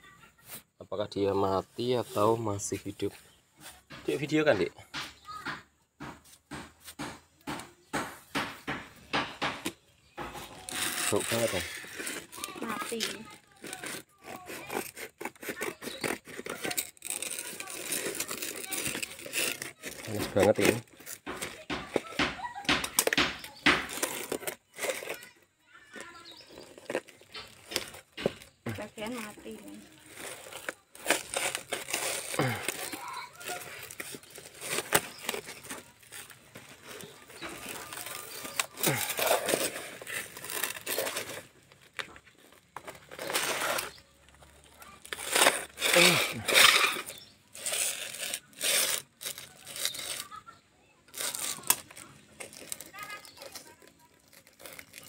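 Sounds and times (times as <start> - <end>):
cardboard and tape tearing: 6.2 - 55.0.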